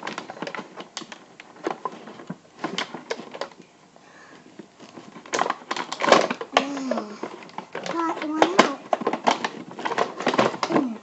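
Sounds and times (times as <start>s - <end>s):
plastic packaging clicking and crackling: 0.0s - 3.7s, 4.3s - 11.0s.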